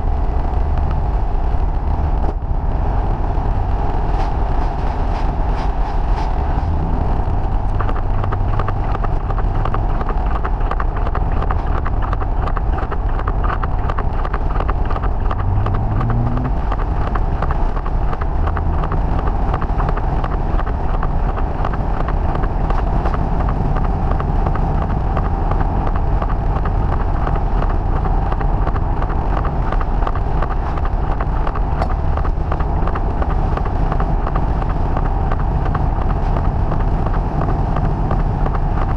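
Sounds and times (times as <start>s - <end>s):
car engine drone: 0.0s - 38.9s
tyres on wet road: 0.0s - 38.9s
wind noise: 0.0s - 38.9s
rapid fine ticking: 6.5s - 38.9s.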